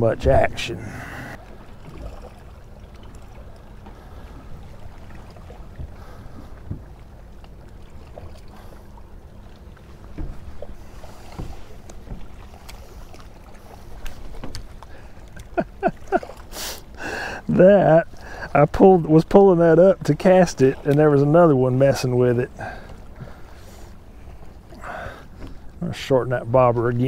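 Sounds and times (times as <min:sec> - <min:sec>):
faint steady hum: 0:00.0 - 0:27.0
low rumble of wind and water: 0:00.0 - 0:27.0.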